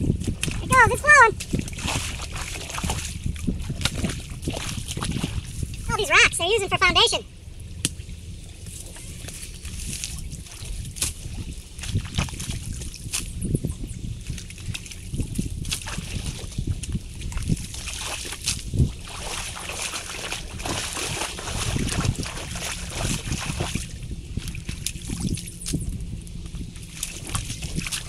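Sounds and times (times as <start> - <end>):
water sloshing and splashing: 0.0 - 28.0.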